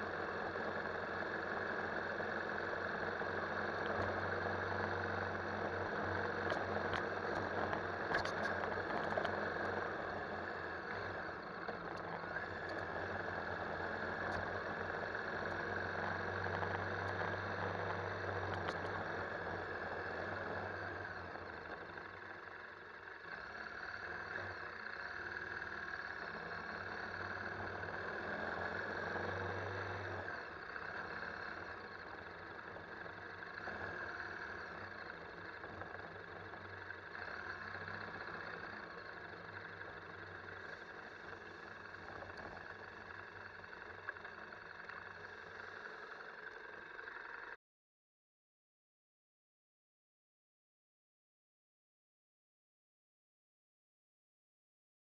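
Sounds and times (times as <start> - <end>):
motorcycle engine running: 0.0 - 47.6.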